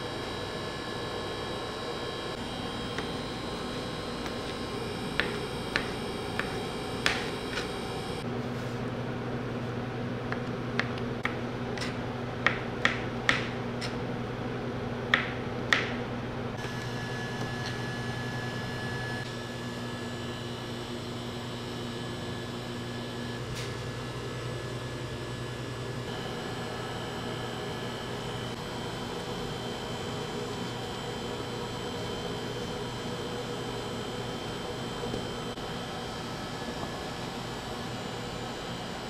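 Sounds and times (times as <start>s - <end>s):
steady equipment hum: 0.0s - 39.0s.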